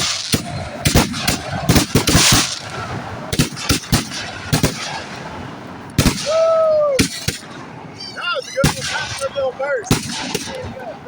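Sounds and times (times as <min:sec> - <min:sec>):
firework hiss: 0:00.0 - 0:10.8
fireworks bangs: 0:00.0 - 0:11.0.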